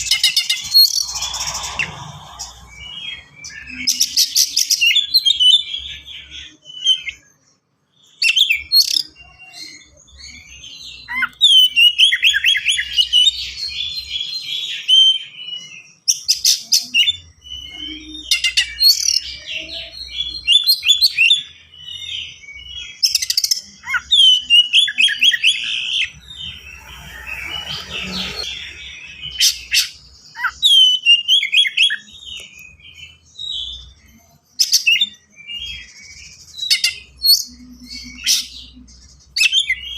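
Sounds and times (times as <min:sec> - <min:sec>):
bird singing fast whistled song: 0:00.0 - 0:07.2, 0:08.0 - 0:39.9.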